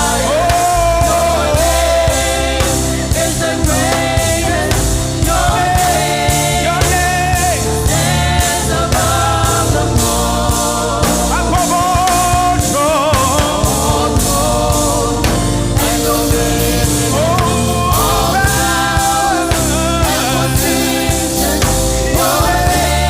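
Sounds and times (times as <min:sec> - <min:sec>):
band with steady beat: 0:00.0 - 0:23.0
voices singing gospel song: 0:00.0 - 0:23.0.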